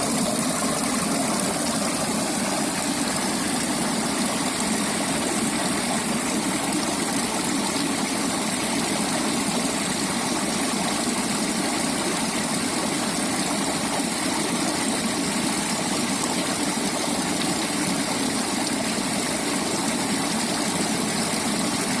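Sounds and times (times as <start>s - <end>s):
creek water burbling over stones: 0.0s - 22.0s.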